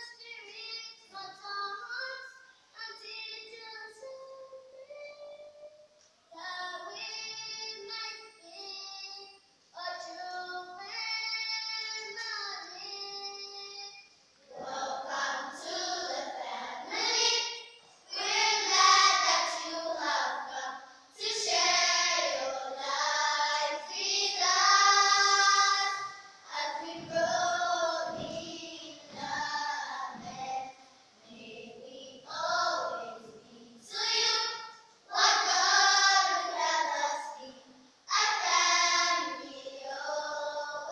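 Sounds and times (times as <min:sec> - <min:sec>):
children's choir singing: 0:00.0 - 0:05.7, 0:09.8 - 0:40.9.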